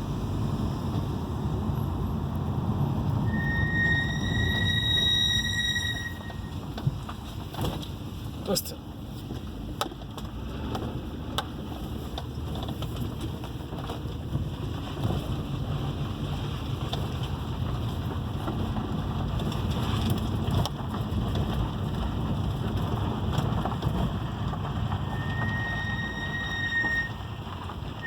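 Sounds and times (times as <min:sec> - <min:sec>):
road and tyre rumble in car: 0:00.0 - 0:28.0.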